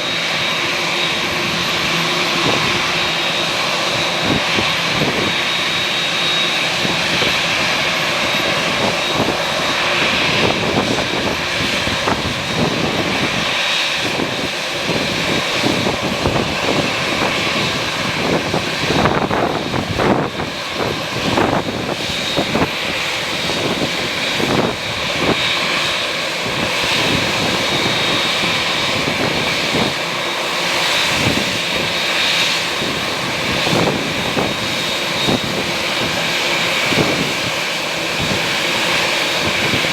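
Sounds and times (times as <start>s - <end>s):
airplane engines with high whine: 0.0s - 39.9s
wind gusting on microphone: 0.1s - 39.9s.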